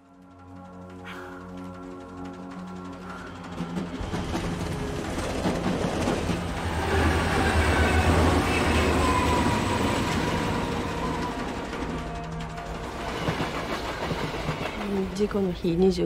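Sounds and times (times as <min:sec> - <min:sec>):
electric train rushing past: 0:00.0 - 0:16.0.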